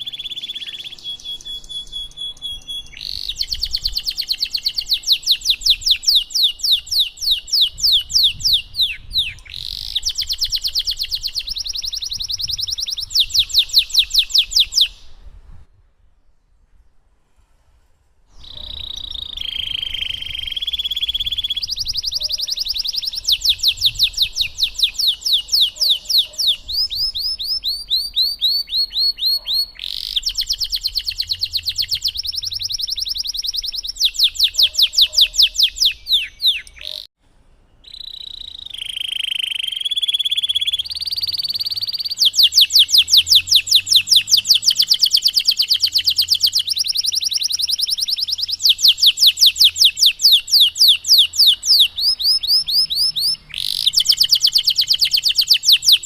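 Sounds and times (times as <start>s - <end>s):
canary singing trills: 0.0s - 15.2s, 18.4s - 37.1s, 37.8s - 56.0s.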